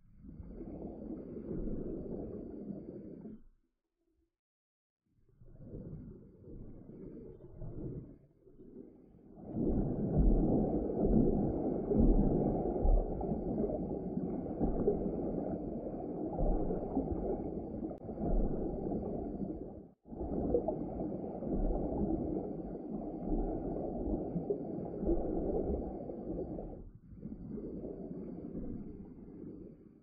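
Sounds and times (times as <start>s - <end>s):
muffled underwater water rushing: 0.0s - 3.4s, 5.3s - 30.0s.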